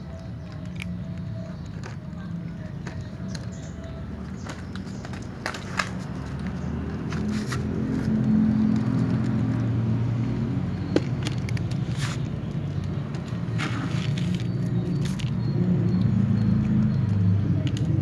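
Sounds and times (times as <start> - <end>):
cats crunching dry kibble: 0.0 - 10.2, 10.8 - 15.9, 16.6 - 18.0.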